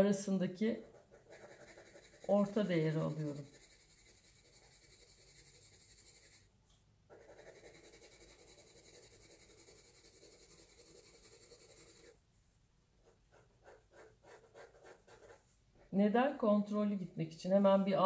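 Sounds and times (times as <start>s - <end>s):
pencil scratching on paper: 0.0s - 6.5s, 7.1s - 12.2s, 13.0s - 16.0s.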